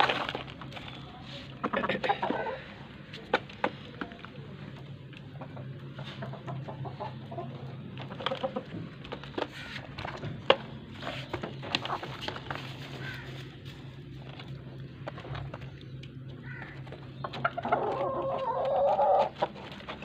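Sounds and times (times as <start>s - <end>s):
low steady hum: 0.0s - 20.0s
hens clucking: 1.4s - 20.0s.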